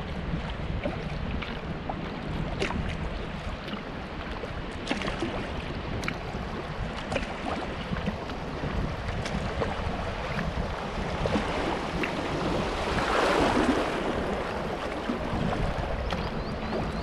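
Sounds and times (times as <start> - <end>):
kayak paddle splashing water: 0.0 - 17.0
wind rumble on microphone: 0.0 - 17.0.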